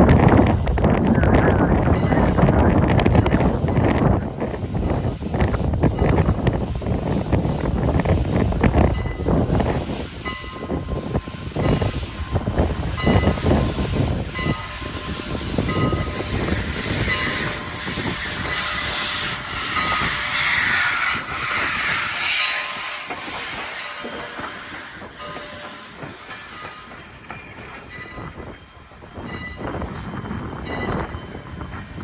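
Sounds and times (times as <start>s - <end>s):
steam hissing: 1.8s - 32.0s.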